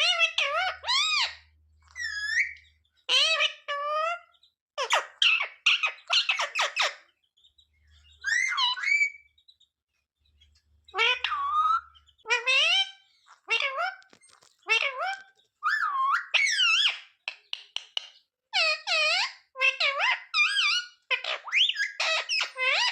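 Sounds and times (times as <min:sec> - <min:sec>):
parrot squawking and chattering: 0:00.0 - 0:07.1, 0:08.0 - 0:09.3, 0:10.8 - 0:22.9.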